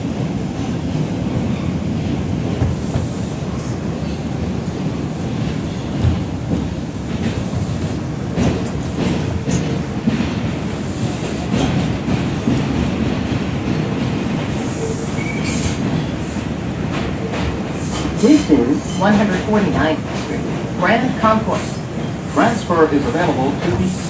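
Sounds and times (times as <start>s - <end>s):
subway wheels rumbling on rail: 0.0s - 24.0s.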